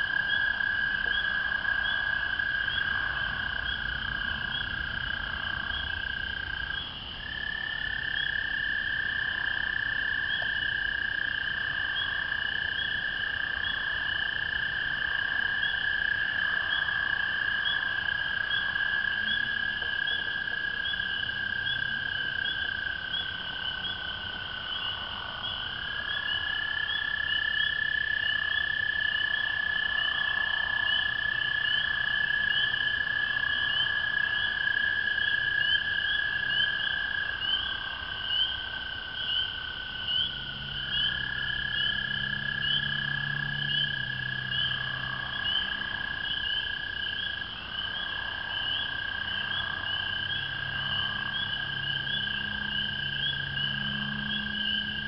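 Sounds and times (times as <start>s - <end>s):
frogs peeping: 0.0s - 55.0s
toads trilling: 0.0s - 55.0s.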